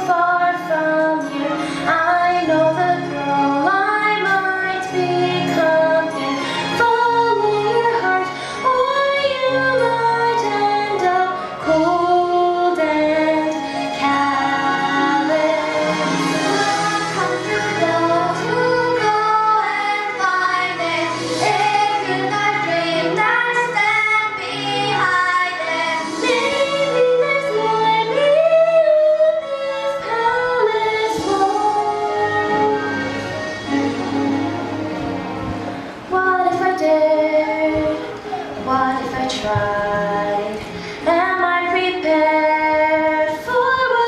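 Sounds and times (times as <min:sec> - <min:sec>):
young woman singing: 0:00.0 - 0:34.7, 0:36.1 - 0:44.0
instrumental accompaniment: 0:00.0 - 0:44.0.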